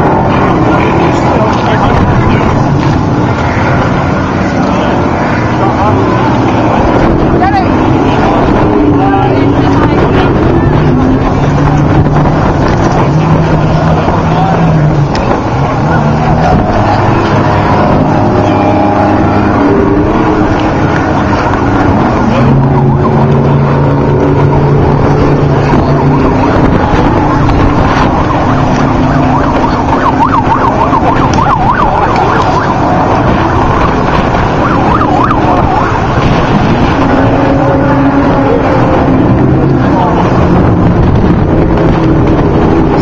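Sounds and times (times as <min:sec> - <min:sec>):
race truck engines revving: 0:00.0 - 0:43.0.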